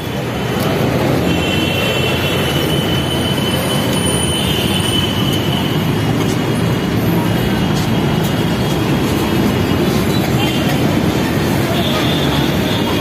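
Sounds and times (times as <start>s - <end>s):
heavy road traffic rumble: 0.0s - 13.0s.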